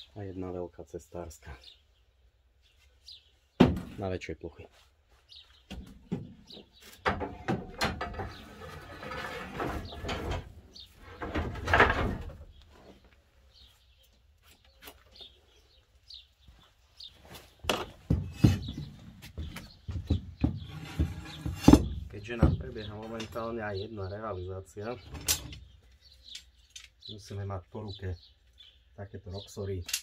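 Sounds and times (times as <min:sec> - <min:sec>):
birds chirping faintly: 0:00.0 - 0:30.0.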